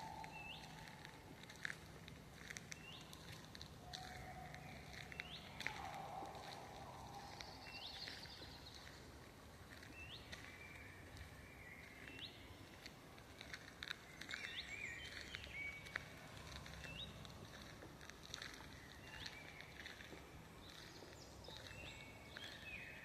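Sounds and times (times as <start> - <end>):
birds chirping and warbling: 0.0 - 23.0
footsteps on forest floor: 0.0 - 23.0.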